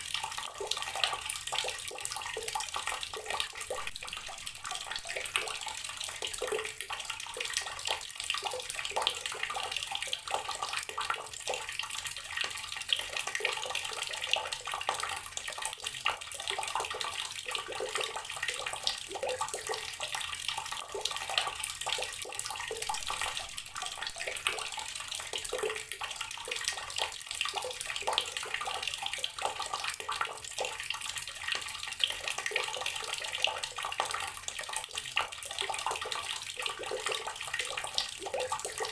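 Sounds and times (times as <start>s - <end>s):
water tap running into basin: 0.0s - 38.9s.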